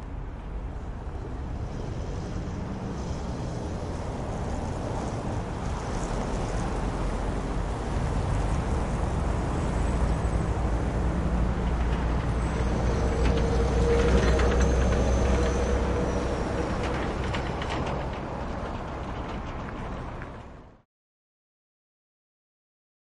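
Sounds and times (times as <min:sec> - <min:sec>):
traffic rumble: 0:00.0 - 0:20.8
heavy vehicle passing: 0:00.8 - 0:20.7.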